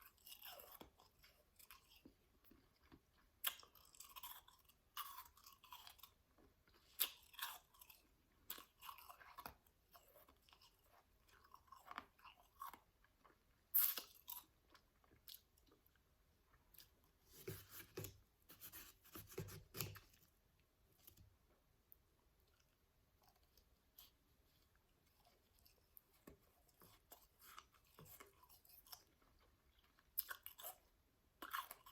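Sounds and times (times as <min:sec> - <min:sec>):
chewing crunchy shaved ice: 0:00.0 - 0:17.0, 0:22.5 - 0:31.9.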